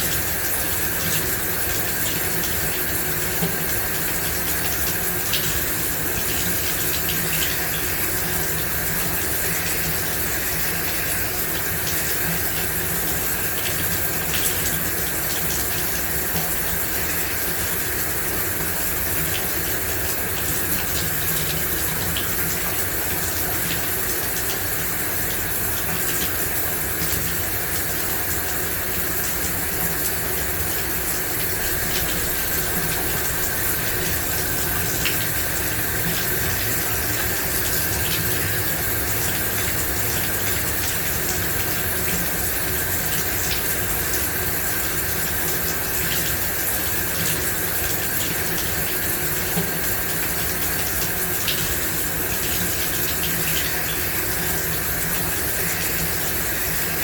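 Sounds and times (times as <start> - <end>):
shower water spraying: 0.0 - 57.0.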